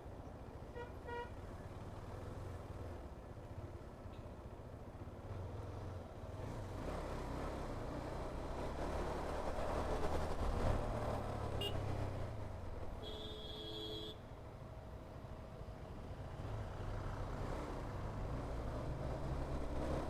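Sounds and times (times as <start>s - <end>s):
truck engines rumbling: 1.6s - 20.0s.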